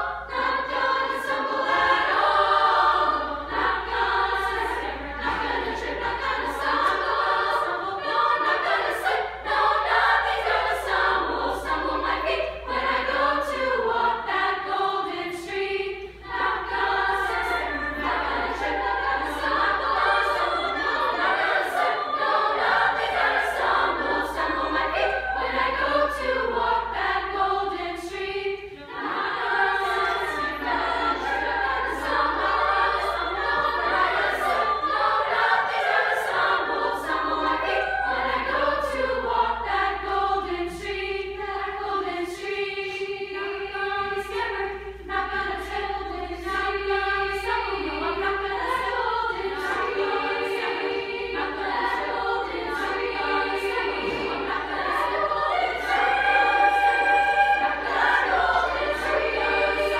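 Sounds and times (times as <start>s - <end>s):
women's chorus singing: 0.0s - 59.9s.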